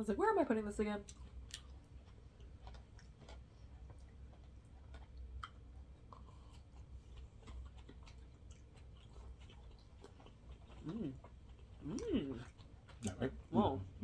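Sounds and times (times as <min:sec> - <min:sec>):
steady low hum: 0:00.0 - 0:14.0
soft chewing: 0:01.0 - 0:14.0.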